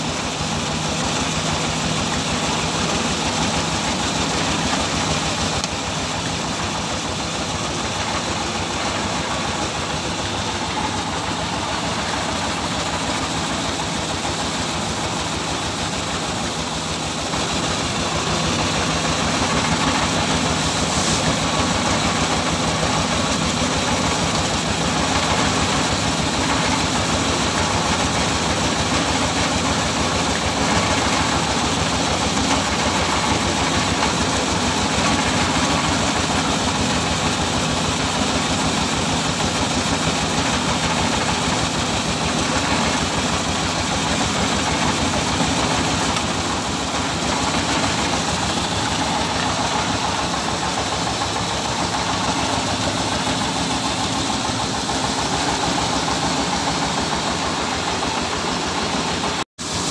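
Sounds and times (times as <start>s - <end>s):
feed mixing machine pulsing: 0.0s - 59.9s.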